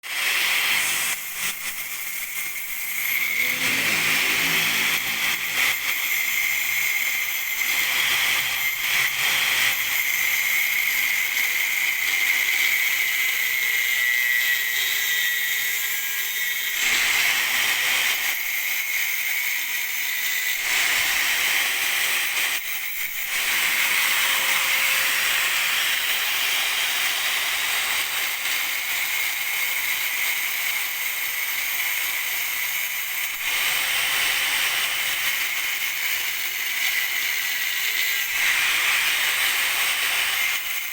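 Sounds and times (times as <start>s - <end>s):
grinder grinding metal pipe: 0.0s - 40.9s.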